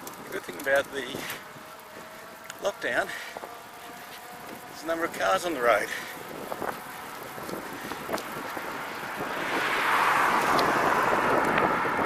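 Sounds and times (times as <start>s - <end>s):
car tyre and road noise: 0.0s - 12.0s
wind on microphone: 0.0s - 12.0s.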